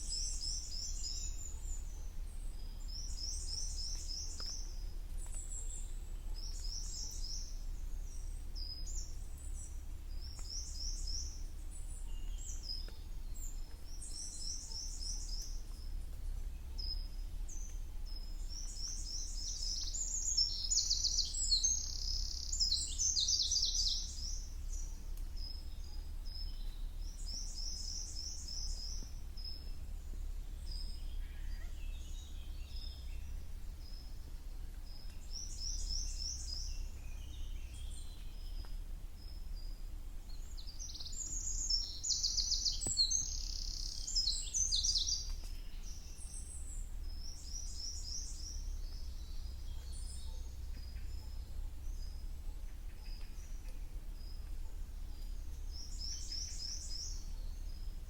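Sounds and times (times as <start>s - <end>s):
songbirds singing: 0.0s - 58.0s
steady low rumble: 0.0s - 58.0s.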